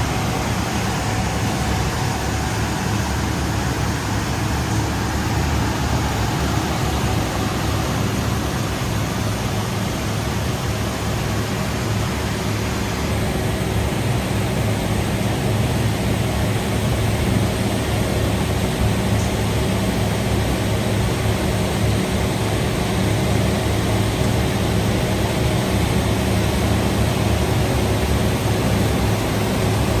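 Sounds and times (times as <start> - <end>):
low constant hum: 0.0 - 30.0.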